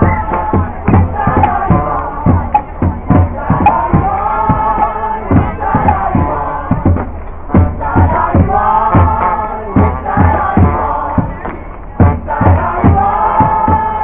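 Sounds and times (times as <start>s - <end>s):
crowd chanting: 0.0s - 14.0s
steady drumbeat: 0.0s - 14.0s.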